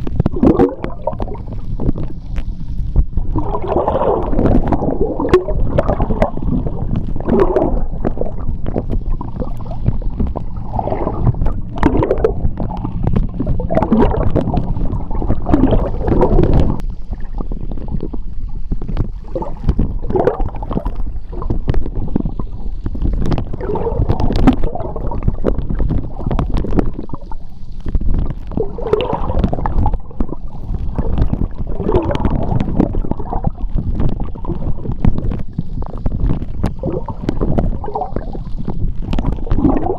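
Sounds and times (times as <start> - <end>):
bubbles gurgling: 0.0 - 39.9
underwater rumble of moving water: 0.0 - 39.9.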